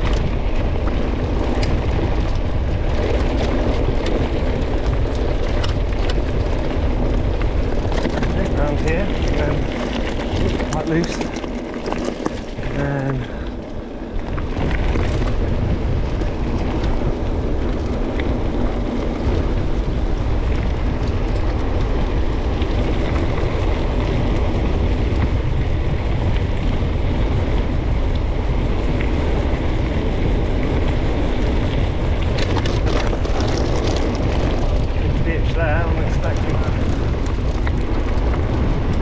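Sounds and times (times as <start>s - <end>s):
bike rattling: 0.0s - 39.0s
tyres rumbling on dirt track: 0.0s - 39.0s
wind buffeting microphone: 0.0s - 39.0s.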